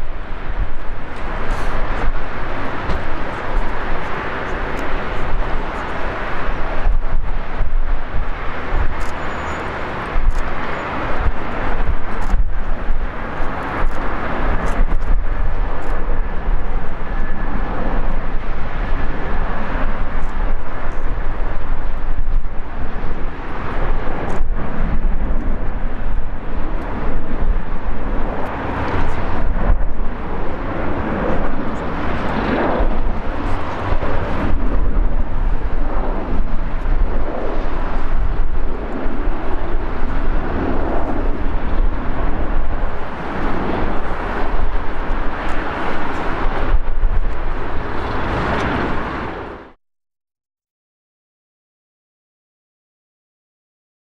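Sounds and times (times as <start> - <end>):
distant jet engines at takeoff: 0.0 - 49.8.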